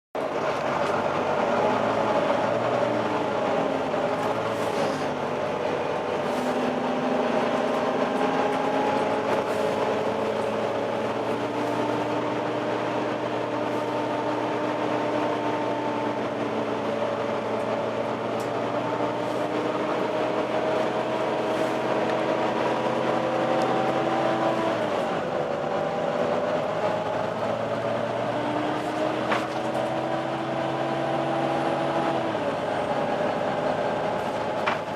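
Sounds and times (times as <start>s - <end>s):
bus cooling fan whine: 0.2s - 34.9s
bus engine running: 0.2s - 34.9s.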